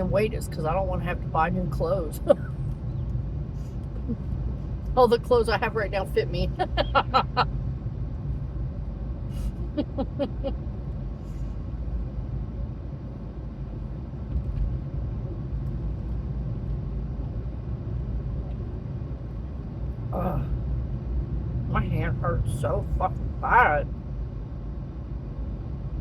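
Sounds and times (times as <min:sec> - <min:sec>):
car engine low rumble: 0:00.0 - 0:26.0.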